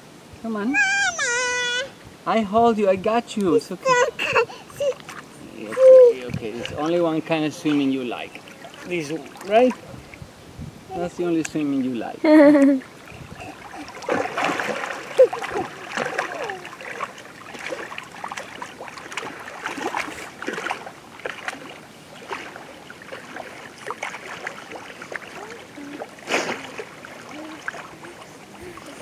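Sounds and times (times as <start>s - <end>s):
water splashing and sloshing: 2.6s - 29.0s.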